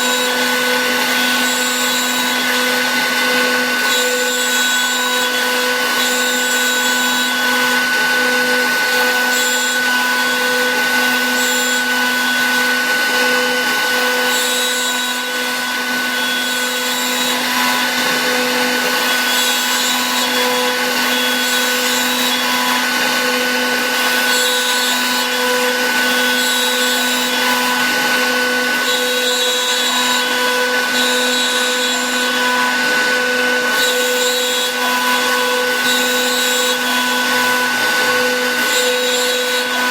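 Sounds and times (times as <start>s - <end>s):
cutter hissing through plastic: 0.0s - 39.9s
milling machine spindle whine: 0.0s - 39.9s.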